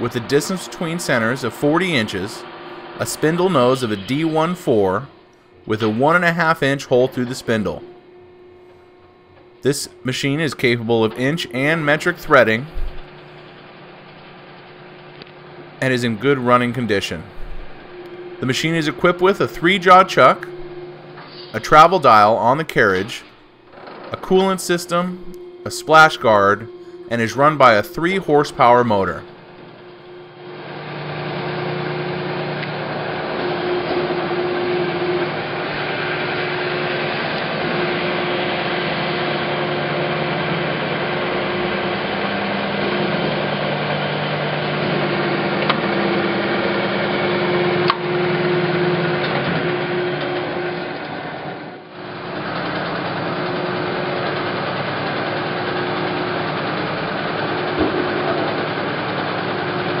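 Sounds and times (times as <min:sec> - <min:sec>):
lathe hum and gear whine: 0:00.0 - 1:00.0.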